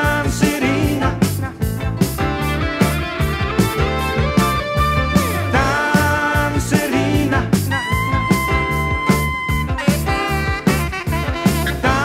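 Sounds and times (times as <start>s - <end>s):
dance band music from vinyl: 0.1s - 12.0s.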